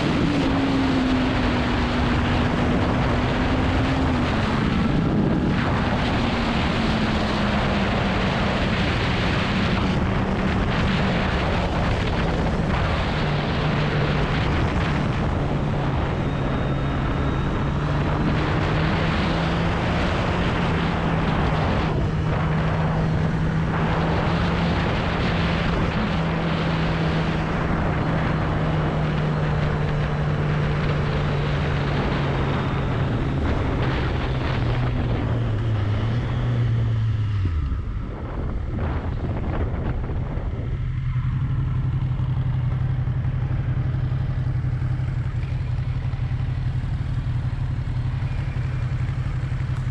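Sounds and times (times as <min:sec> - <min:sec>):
motorcycle engine running: 0:00.0 - 0:49.9
wind and road rush: 0:00.0 - 0:49.9.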